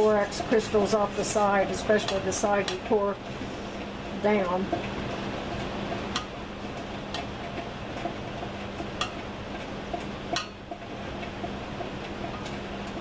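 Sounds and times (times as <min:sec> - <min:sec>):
gas burner hiss and hum: 0:00.0 - 0:13.0.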